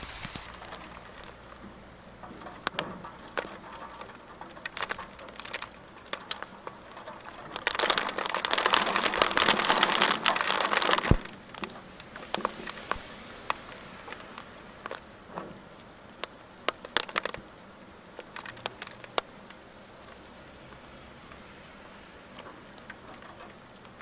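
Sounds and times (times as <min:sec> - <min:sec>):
raindrops pattering: 0:00.0 - 0:24.0.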